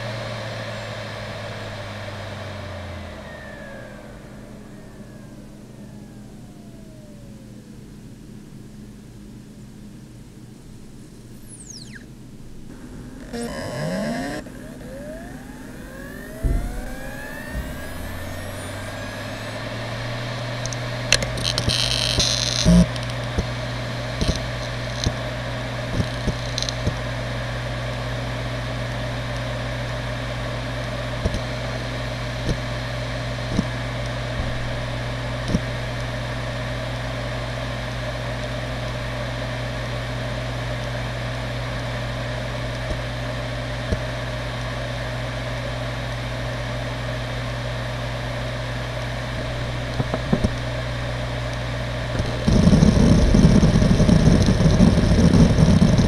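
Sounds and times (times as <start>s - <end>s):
hard drive spinning hum: 0.0s - 56.0s.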